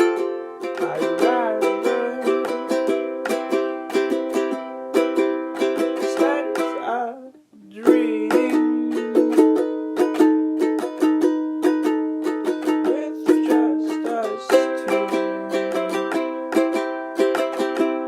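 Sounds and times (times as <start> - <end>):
ukulele strumming chords: 0.0 - 18.0.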